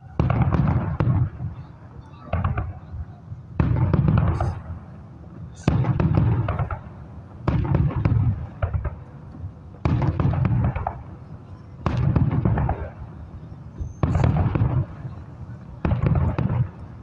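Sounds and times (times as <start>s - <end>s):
firework booms: 0.0s - 17.0s
firework crackle and rumble: 0.0s - 17.0s.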